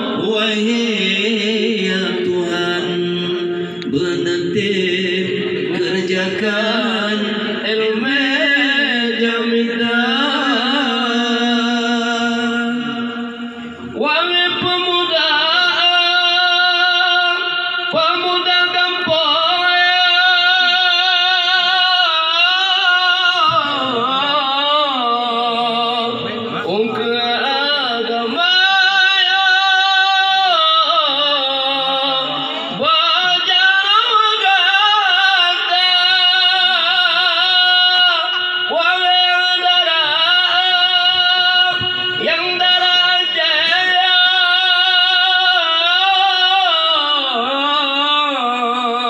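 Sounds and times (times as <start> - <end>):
man singing chant-like melody: 0.0 - 49.0.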